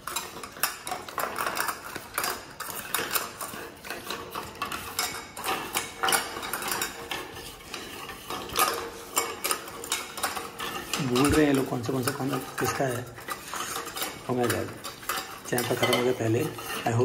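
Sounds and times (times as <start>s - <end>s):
metal bowls clinking against wire: 0.0s - 17.0s.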